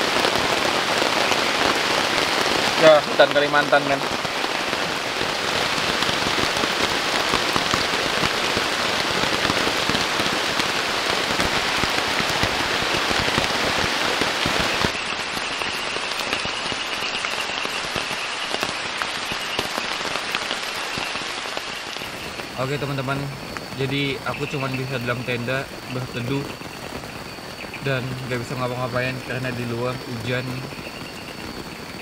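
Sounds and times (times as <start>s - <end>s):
heavy rain on a tent: 0.0s - 32.0s.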